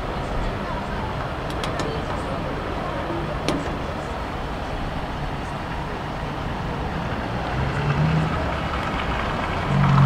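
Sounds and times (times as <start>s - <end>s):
moving vehicle rumble and hiss: 0.0s - 10.0s.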